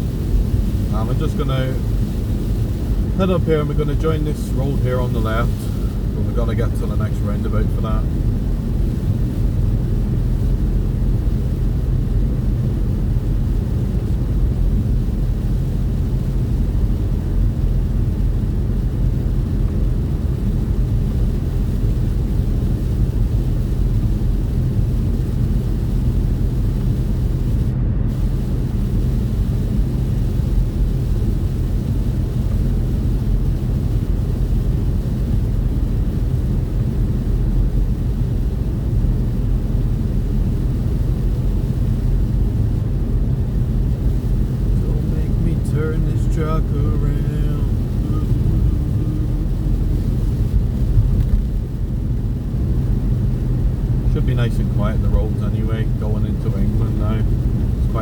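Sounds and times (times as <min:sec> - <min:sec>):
constant hum: 0:00.0 - 0:58.0
road noise: 0:00.0 - 0:58.0
truck engine drone: 0:00.0 - 0:58.0.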